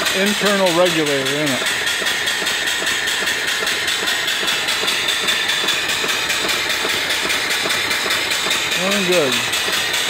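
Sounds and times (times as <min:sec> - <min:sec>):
small steam engine beating: 0:00.0 - 0:10.0
steam hissing: 0:00.0 - 0:10.0.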